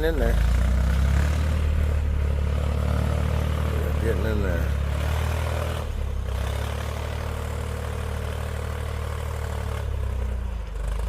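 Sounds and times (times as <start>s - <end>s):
backhoe engine droning: 0.0s - 11.0s.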